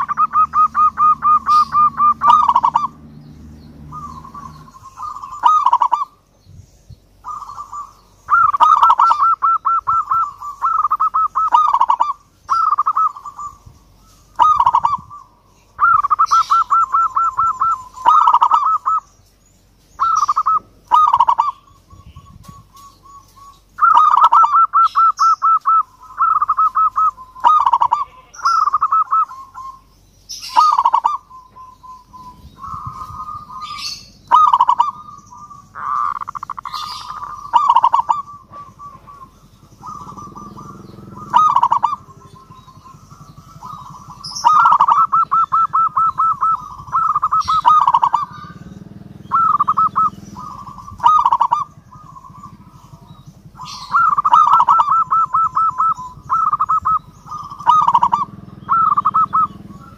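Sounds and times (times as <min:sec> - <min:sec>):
dove cooing: 0:00.0 - 0:06.3, 0:07.1 - 0:19.2, 0:19.9 - 0:59.9.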